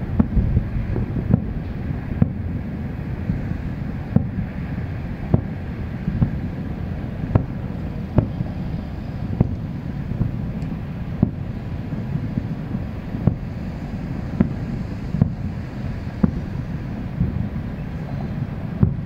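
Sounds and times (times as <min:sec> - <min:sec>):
distant fireworks bangs: 0:00.0 - 0:19.0
wind rumble on microphone: 0:00.0 - 0:19.0.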